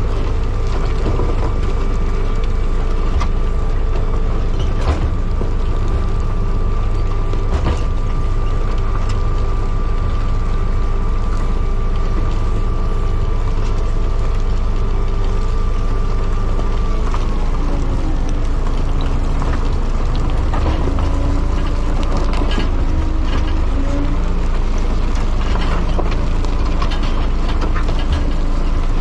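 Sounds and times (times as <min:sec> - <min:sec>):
diesel engine running: 0:00.0 - 0:29.0
machine whine: 0:00.0 - 0:29.0.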